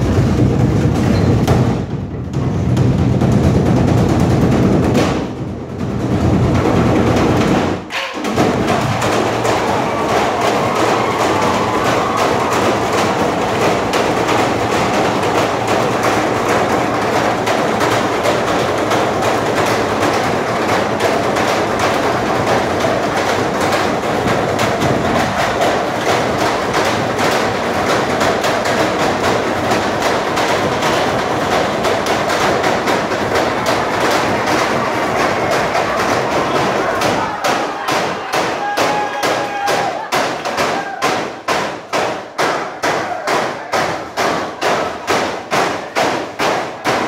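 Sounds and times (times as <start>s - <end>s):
drumming on garbage cans: 0.0s - 47.0s.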